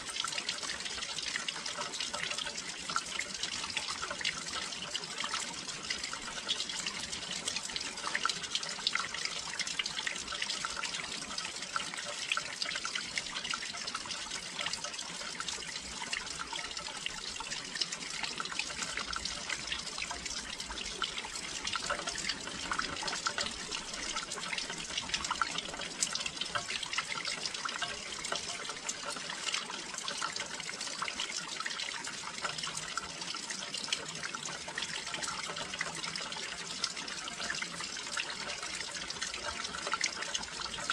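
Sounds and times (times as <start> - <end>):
rain with sharp drop ticks: 0.0 - 40.9.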